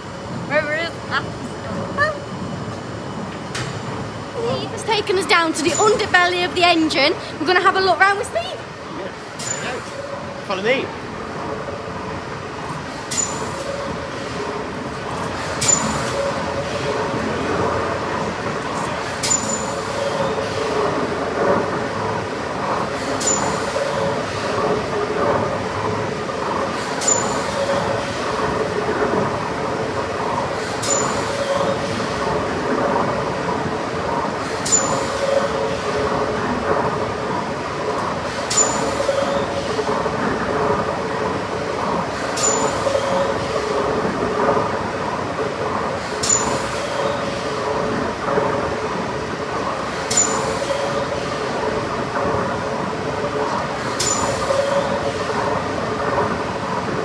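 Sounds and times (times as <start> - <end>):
steam engine hum and clatter: 0.0 - 57.0.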